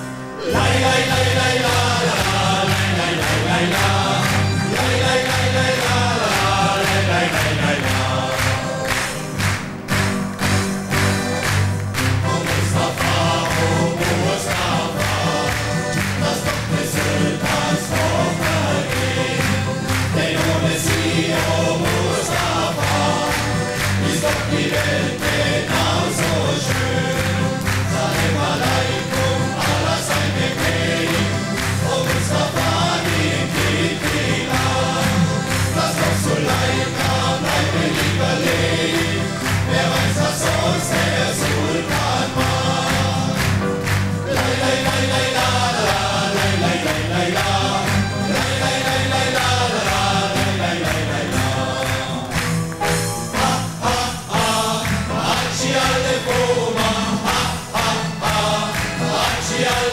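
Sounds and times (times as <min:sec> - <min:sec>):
men's choir singing: 0:00.3 - 0:59.9
band accompaniment with steady beat: 0:00.6 - 0:59.9.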